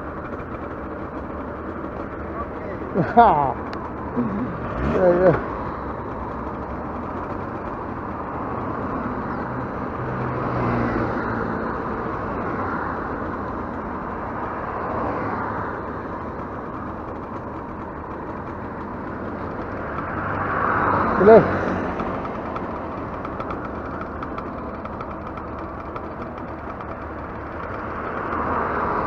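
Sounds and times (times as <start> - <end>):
motorcycle engine idling: 0.0 - 29.0
passing traffic: 0.0 - 29.0.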